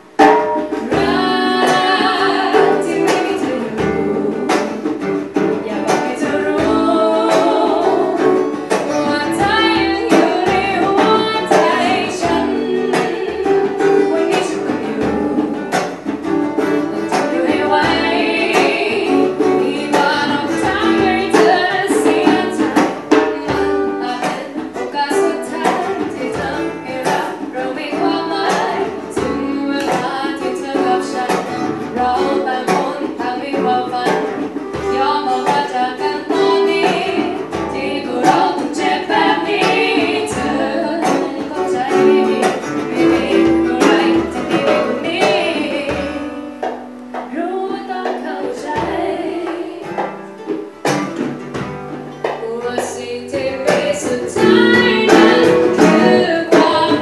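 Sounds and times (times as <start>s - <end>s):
strummed acoustic guitar: 0.0s - 57.0s
women and man singing together: 0.2s - 51.3s, 52.1s - 57.0s.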